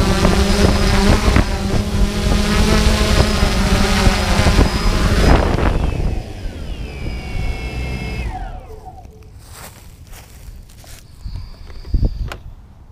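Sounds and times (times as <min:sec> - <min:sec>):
small motors spinning down: 0:00.0 - 0:12.5.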